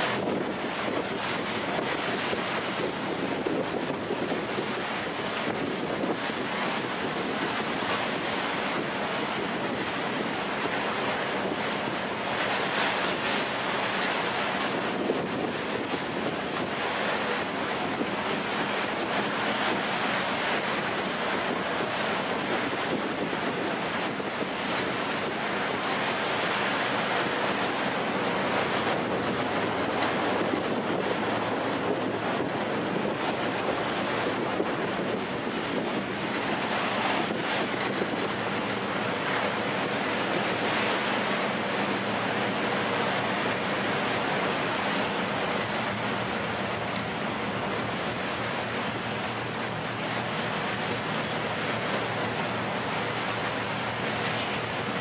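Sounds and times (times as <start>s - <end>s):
sea water rushing: 0.0s - 55.0s
wind buffeting microphone: 0.0s - 55.0s.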